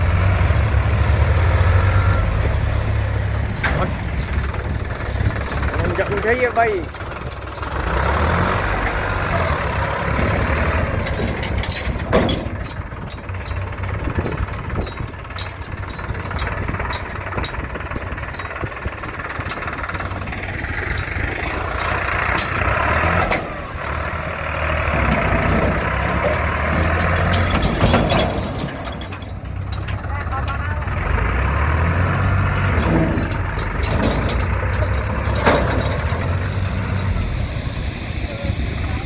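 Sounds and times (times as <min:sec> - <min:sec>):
tractor diesel engine running hard: 0:00.0 - 0:39.0.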